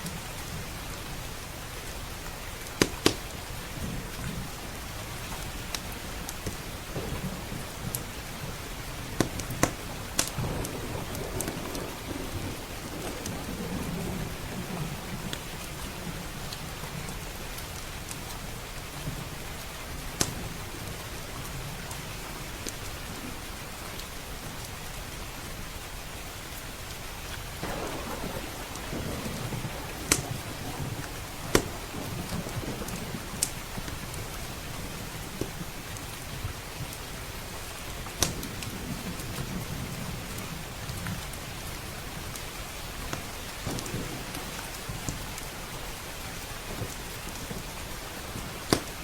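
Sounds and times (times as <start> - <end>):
wood fire crackling: 0.0 - 23.0, 26.6 - 49.0
rain on a roof and windows: 0.0 - 49.0.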